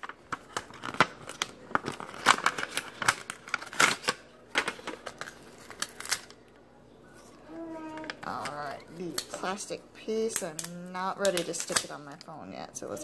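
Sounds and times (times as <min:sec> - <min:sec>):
plastic packaging clicks and crinkles: 0:00.0 - 0:09.4, 0:10.3 - 0:12.4.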